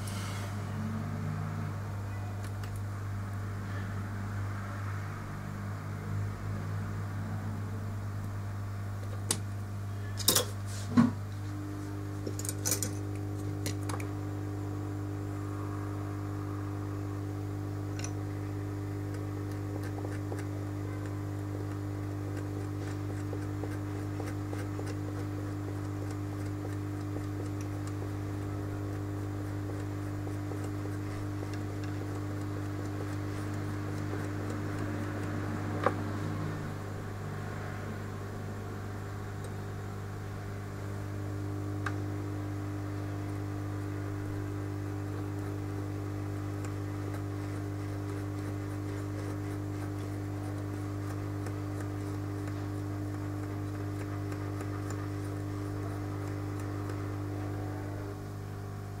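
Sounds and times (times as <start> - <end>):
higher steady hum: 0.0 - 59.0
low electrical hum: 0.0 - 59.0.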